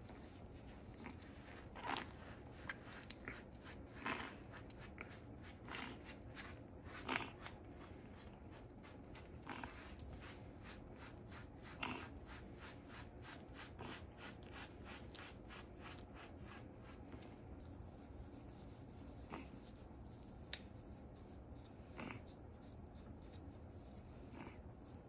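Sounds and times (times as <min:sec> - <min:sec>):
brush scrubbing wet fur: 0:00.0 - 0:25.0.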